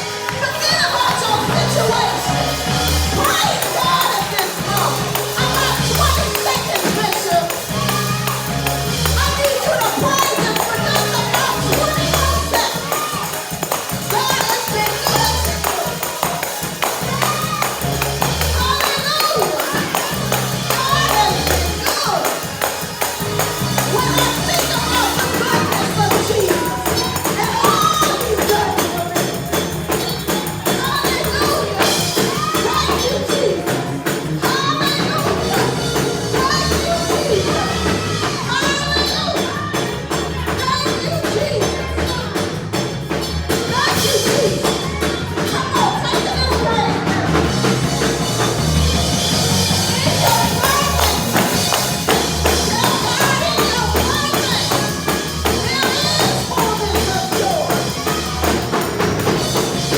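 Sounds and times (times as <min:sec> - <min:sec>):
tambourine shaking: 0:00.0 - 0:59.9
up-tempo gospel music: 0:00.0 - 0:59.9
voices singing and shouting: 0:00.0 - 0:59.9.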